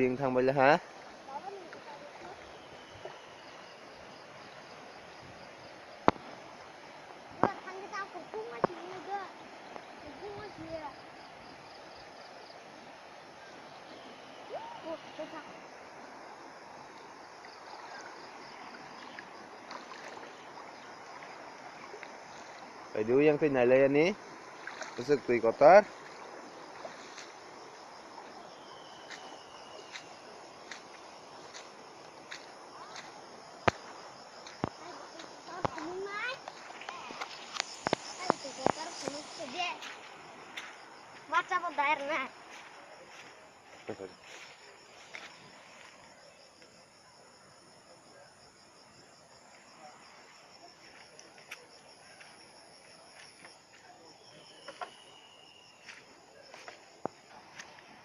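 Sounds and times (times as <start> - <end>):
faint hiss: 0.0 - 52.5
insect chirping: 0.0 - 58.0.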